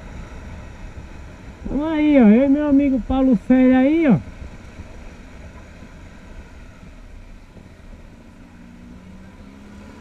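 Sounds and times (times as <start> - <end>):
motorcycle engine rumble: 0.0 - 10.0.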